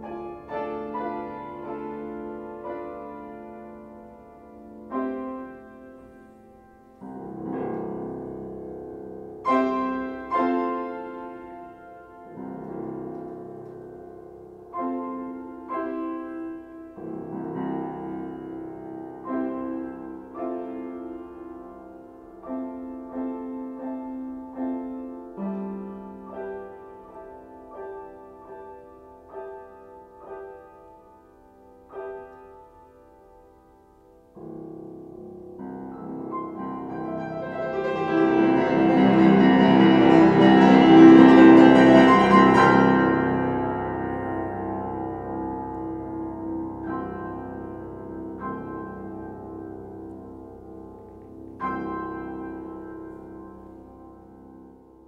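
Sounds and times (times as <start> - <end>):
solo piano playing chords: 0.0 - 55.0.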